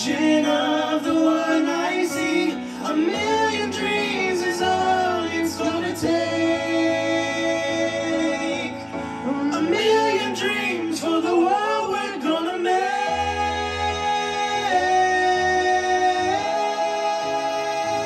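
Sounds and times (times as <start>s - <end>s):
backing music track: 0.0s - 18.0s
man singing: 0.0s - 18.0s.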